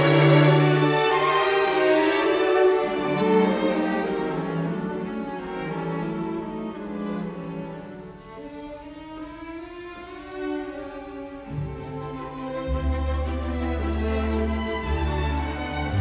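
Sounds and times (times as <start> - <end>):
cello: 0.0 - 16.0
violin: 0.0 - 16.0.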